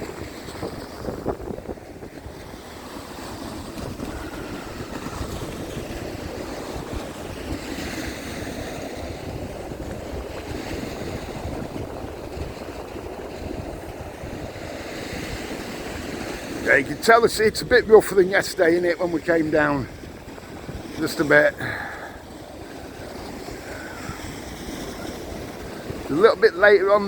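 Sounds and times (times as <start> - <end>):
sea surf breaking: 0.0 - 27.0
wind buffeting microphone: 0.0 - 27.0.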